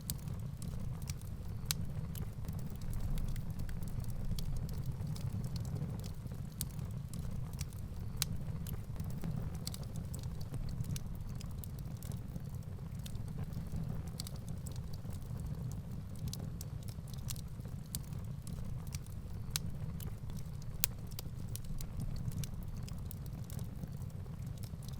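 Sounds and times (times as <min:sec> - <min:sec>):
fire rumbling: 0:00.0 - 0:24.9
wood crackling and popping: 0:00.0 - 0:24.9.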